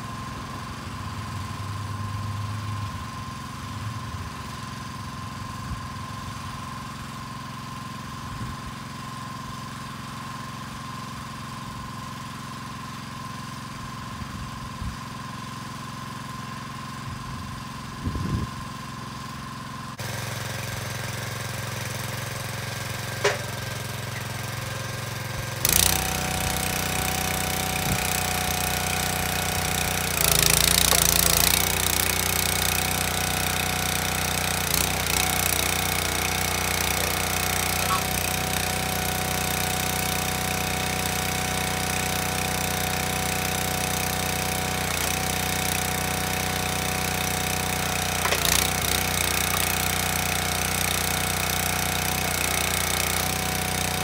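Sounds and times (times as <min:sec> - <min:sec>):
small gas engine running: 0:00.0 - 0:54.0.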